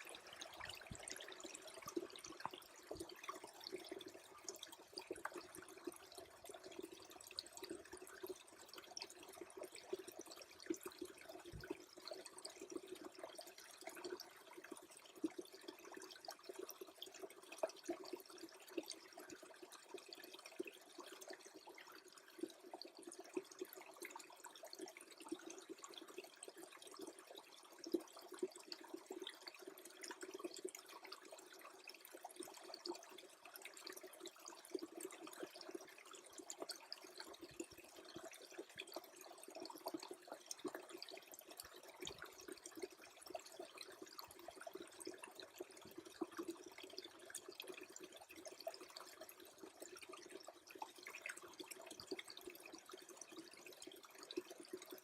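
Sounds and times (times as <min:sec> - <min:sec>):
stream trickling and gurgling: 0:00.0 - 0:55.0
tiny drips and ticks: 0:00.0 - 0:55.0.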